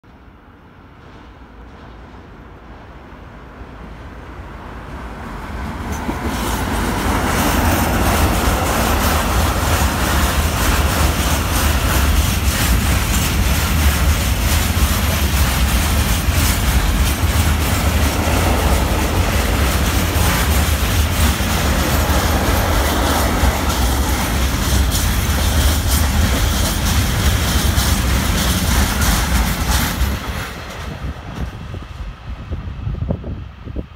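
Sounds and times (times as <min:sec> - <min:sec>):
freight train rumbling past: 0:00.0 - 0:33.9.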